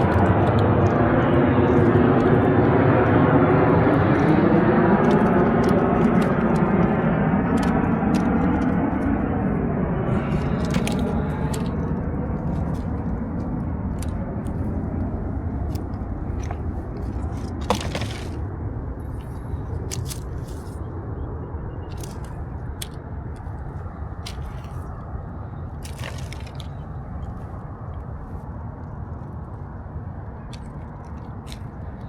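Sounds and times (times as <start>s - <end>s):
litter crunching and crinkling: 0.0s - 20.9s, 21.8s - 28.4s, 30.4s - 32.0s
steady low rumble: 0.0s - 32.0s.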